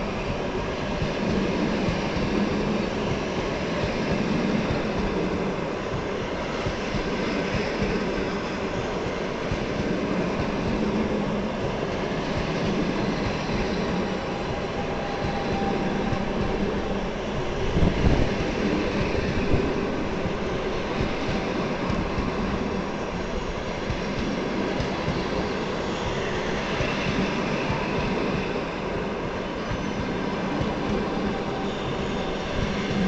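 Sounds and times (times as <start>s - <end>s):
train wheels rushing on rails: 0.0s - 33.0s.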